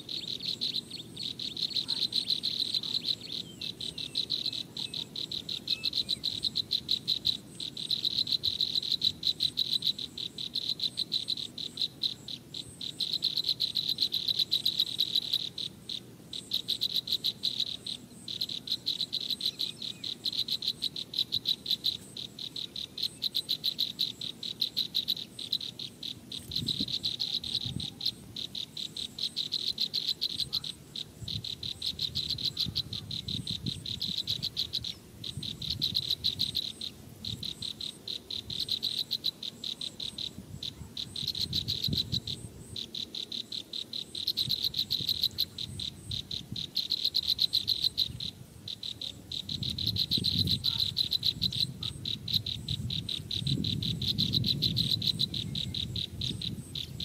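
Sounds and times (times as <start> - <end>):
insects chirping trill: 0.0 - 57.0.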